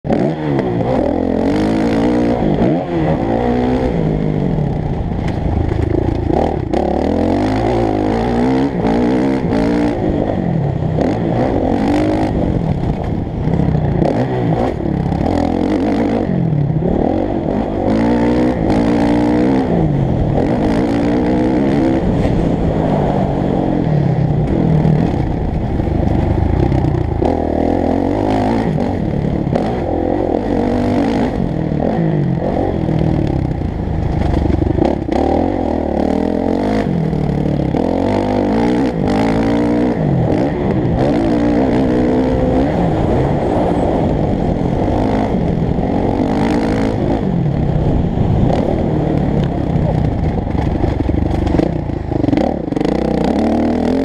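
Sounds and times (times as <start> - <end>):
motocross engine revving: 0.1 - 54.0.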